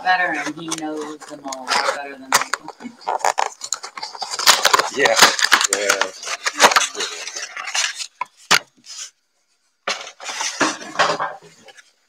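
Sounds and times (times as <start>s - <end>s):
cardboard boxes scraping and clattering: 0.2s - 9.1s, 9.9s - 11.8s.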